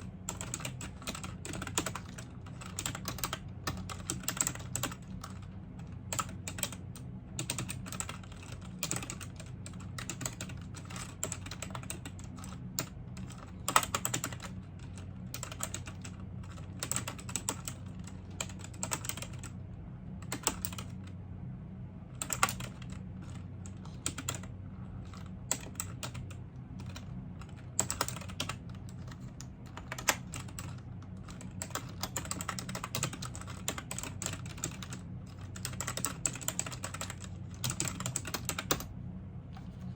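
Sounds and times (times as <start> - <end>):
steady low hum: 0.0 - 39.9
typing on computer keyboard: 0.3 - 5.5, 6.1 - 19.5, 20.2 - 21.0, 22.2 - 38.9.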